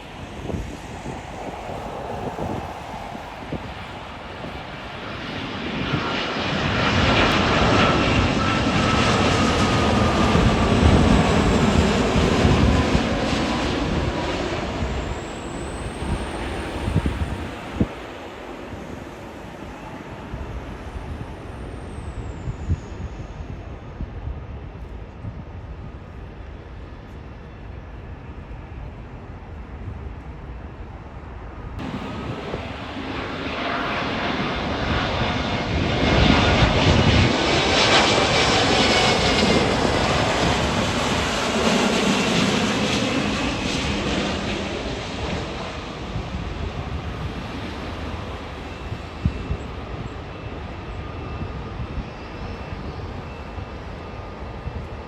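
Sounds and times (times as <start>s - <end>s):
jet airliner passing: 0.0s - 55.0s.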